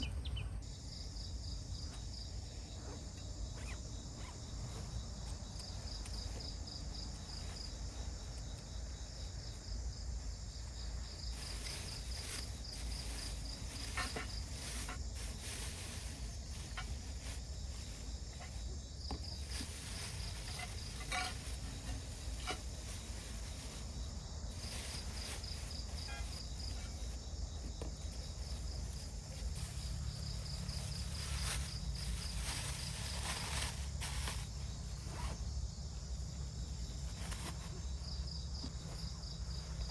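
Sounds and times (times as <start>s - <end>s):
insects chirping trill: 0.0s - 39.9s.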